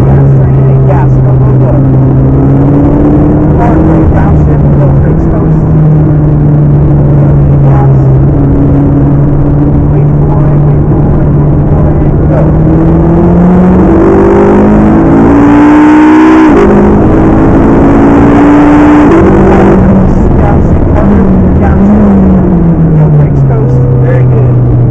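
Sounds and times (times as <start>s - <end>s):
car engine accelerating: 0.0s - 24.9s.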